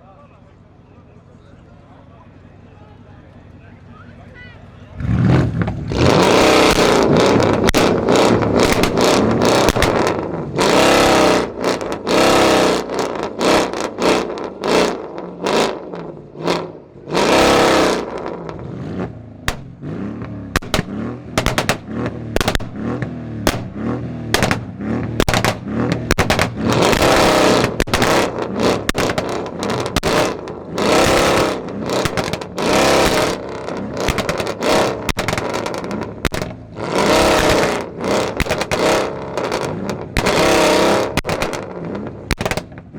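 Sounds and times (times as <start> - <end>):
car engine revving: 4.6 - 42.9
exhaust pops: 5.0 - 42.9.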